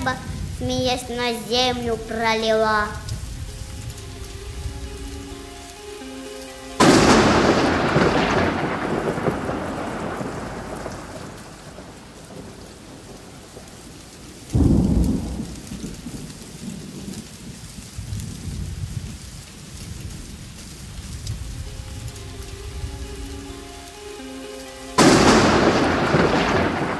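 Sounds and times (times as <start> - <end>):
steady rain: 0.0 - 26.9
thunder rumbling: 0.0 - 26.9.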